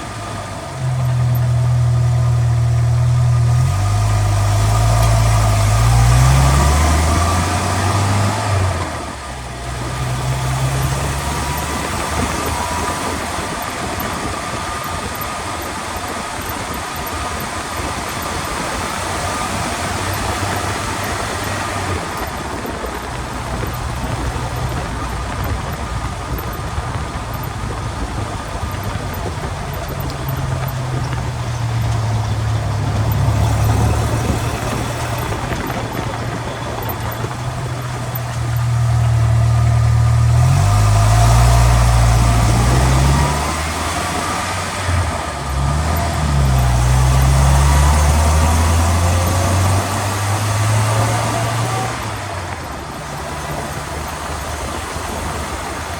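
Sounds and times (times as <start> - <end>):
low driveline hum: 0.0 - 55.9
road noise hiss: 0.0 - 55.9.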